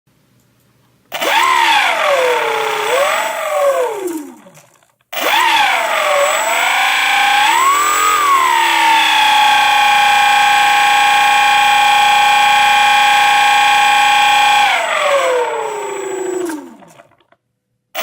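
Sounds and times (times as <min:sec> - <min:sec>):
motor whining: 0:01.2 - 0:17.2.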